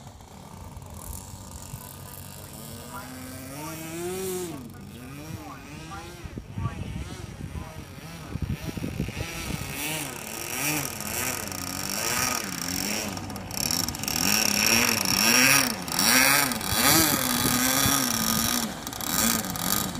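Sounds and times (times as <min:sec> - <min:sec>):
model airplane engine running: 0:00.0 - 0:19.9.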